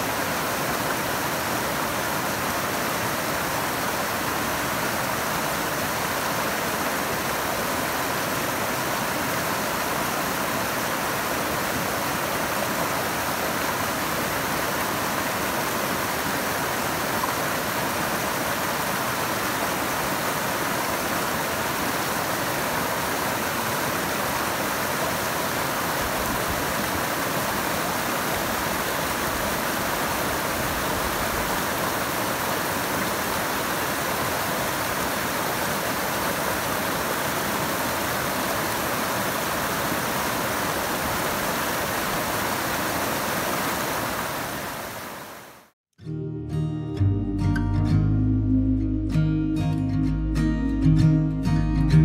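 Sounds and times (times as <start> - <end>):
river rushing over boulders: 0.0 - 45.7.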